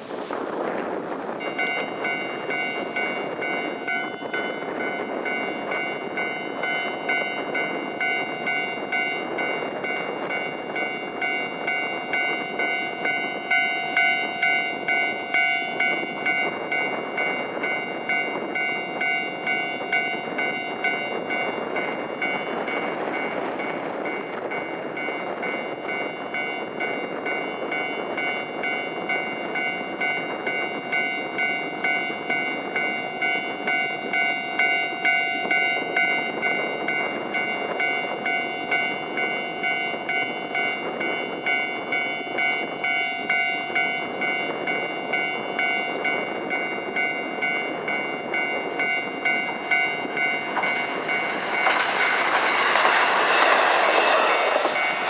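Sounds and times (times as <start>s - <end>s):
level crossing warning bell: 1.3s - 55.0s.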